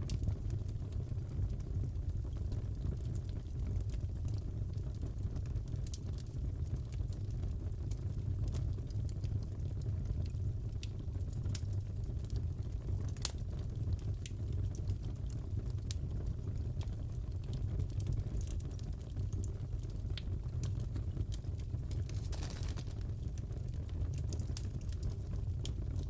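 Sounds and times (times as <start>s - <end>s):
fireplace crackling and popping: 0.0s - 26.0s.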